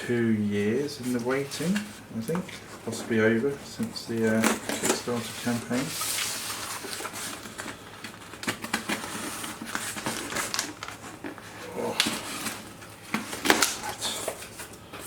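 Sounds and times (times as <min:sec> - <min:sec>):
cardboard crackling and scraping: 0:01.0 - 0:14.8
packing peanuts rustling: 0:01.1 - 0:14.8.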